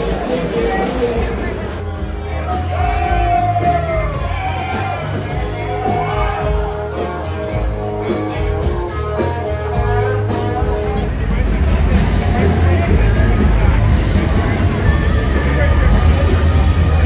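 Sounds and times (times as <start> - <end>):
guitar: 0.0 - 17.0
heavy bass: 0.0 - 17.0
steady drum beat: 1.2 - 17.0.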